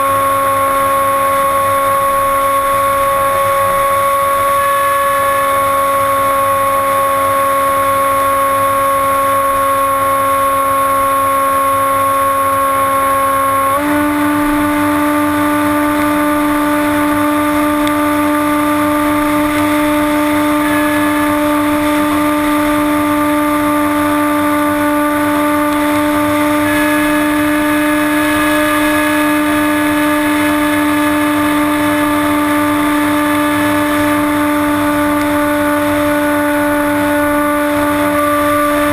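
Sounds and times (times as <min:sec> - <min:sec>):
electric motor whine: 0:00.0 - 0:38.9.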